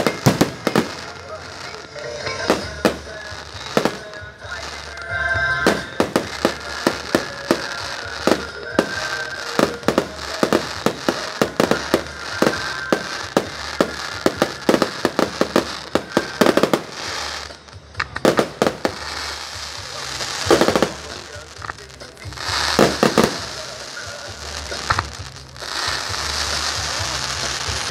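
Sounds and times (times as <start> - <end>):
fireworks bangs: 0.0 - 27.9.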